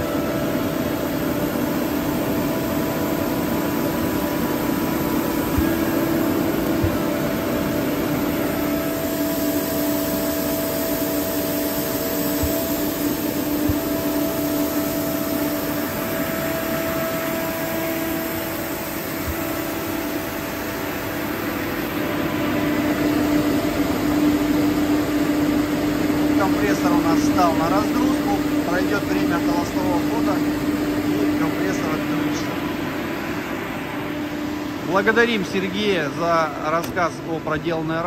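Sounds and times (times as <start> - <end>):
air compressor droning hum: 0.0 - 38.0.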